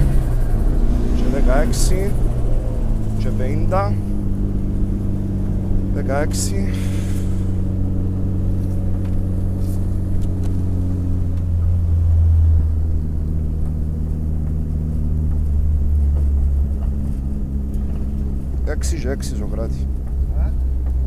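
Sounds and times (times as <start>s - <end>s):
car engine droning from cabin: 0.0s - 21.0s.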